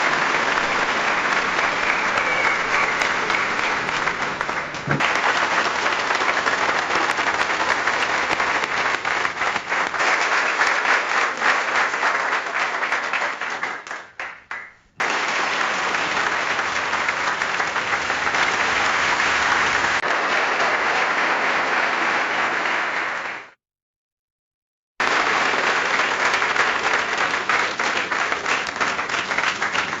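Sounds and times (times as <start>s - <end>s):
crowd applause: 0.0s - 23.6s, 25.0s - 30.0s.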